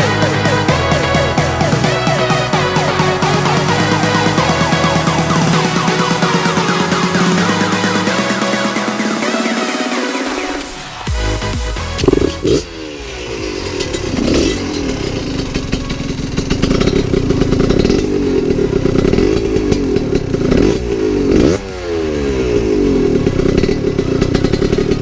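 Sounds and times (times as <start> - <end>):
two-stroke motorcycle revving: 0.0 - 9.7, 12.0 - 25.0.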